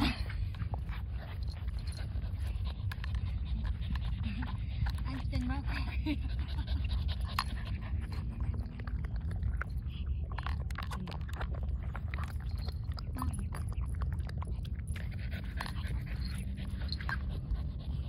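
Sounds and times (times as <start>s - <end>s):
dogs chewing and smacking: 0.0s - 18.0s.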